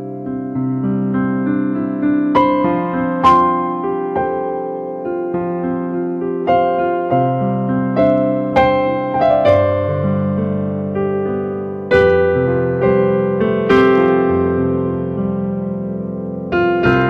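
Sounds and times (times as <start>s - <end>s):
electric piano playing: 0.0s - 17.0s.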